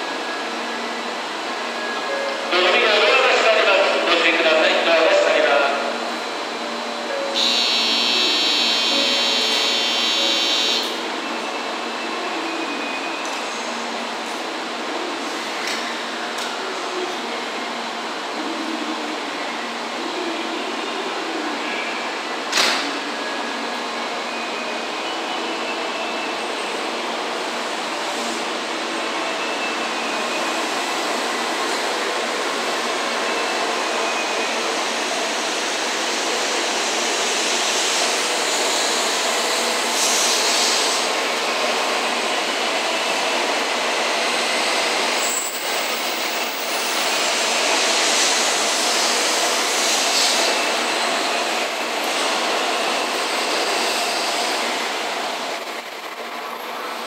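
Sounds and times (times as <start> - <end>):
train rushing rail noise: 0.0 - 57.0.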